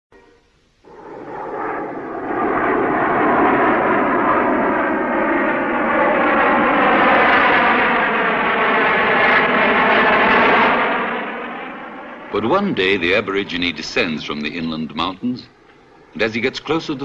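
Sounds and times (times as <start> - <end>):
airplane engines running: 0.2 - 17.0.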